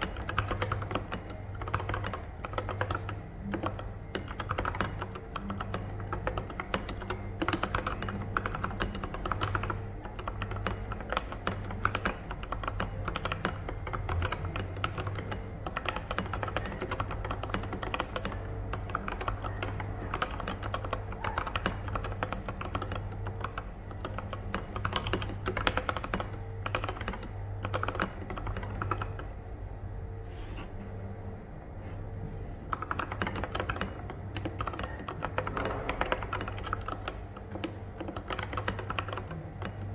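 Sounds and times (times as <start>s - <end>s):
typing on mechanical keyboard: 0.0s - 29.3s, 32.7s - 39.9s.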